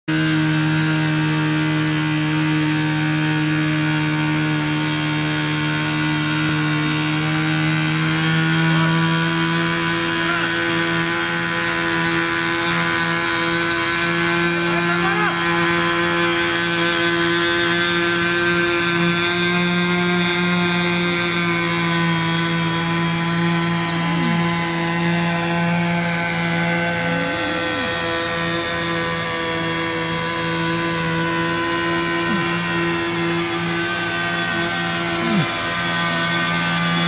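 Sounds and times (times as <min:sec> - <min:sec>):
small engine running: 0:00.1 - 0:37.0.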